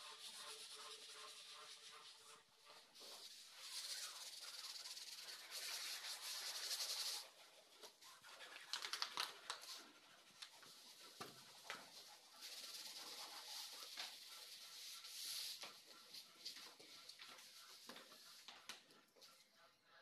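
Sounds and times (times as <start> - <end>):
tool rubbing over foam underlay: 0.0 - 8.7, 9.5 - 18.5.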